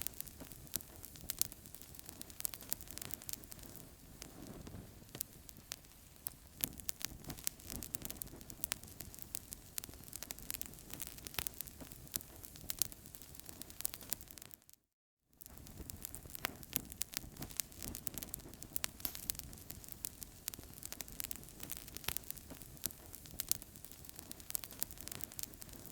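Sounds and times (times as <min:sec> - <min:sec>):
fire popping and snapping: 0:00.0 - 0:14.7, 0:15.4 - 0:25.9
wood fire crackling: 0:00.0 - 0:14.7, 0:15.4 - 0:25.9.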